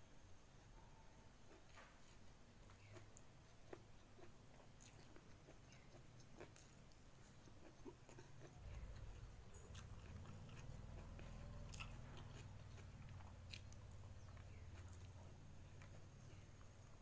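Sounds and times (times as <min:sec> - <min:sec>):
low steady hum: 0:00.0 - 0:17.0
person chewing food: 0:01.4 - 0:17.0.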